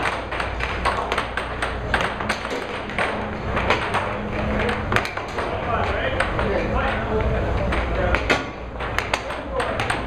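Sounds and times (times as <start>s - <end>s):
air hockey puck clacking: 0.0s - 10.0s
low hum of air blower: 0.0s - 10.0s.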